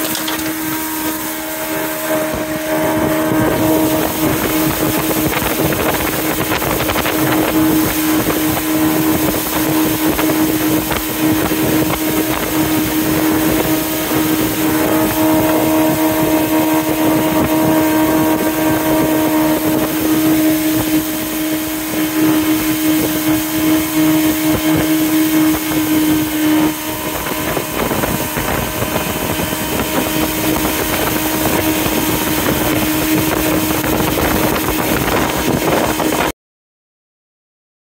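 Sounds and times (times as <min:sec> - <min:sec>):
boat engine running: 0:00.0 - 0:36.3
rushing water: 0:00.0 - 0:36.3
wind: 0:00.0 - 0:36.3.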